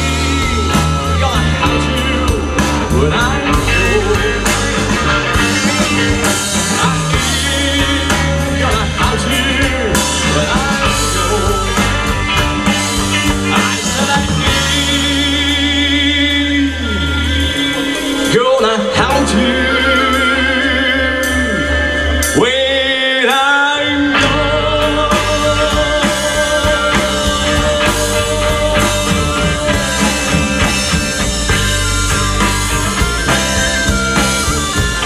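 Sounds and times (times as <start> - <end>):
bass guitar: 0.0 - 35.0
drum kit: 0.0 - 35.0
electric guitars: 0.0 - 35.0
person singing: 0.0 - 35.0.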